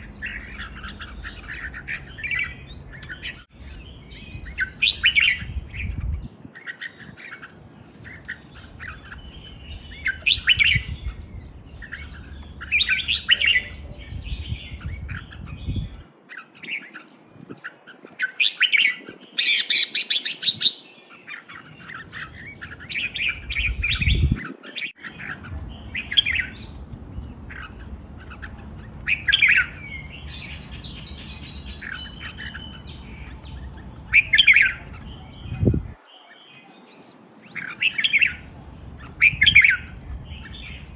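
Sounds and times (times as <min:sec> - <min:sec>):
birds chirping song: 0:00.0 - 0:40.9.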